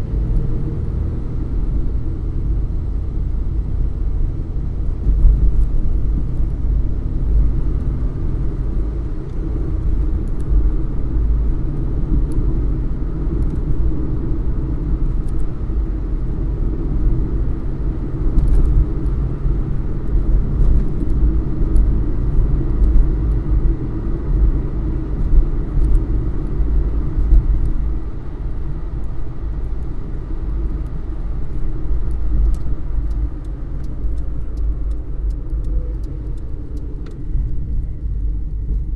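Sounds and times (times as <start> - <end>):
car engine rumble inside cabin: 0.0 - 38.9.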